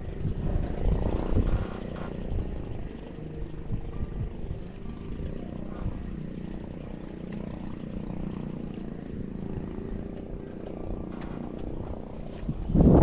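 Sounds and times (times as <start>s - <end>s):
faint steady drone: 0.0s - 13.0s
wind buffeting microphone: 0.0s - 13.0s.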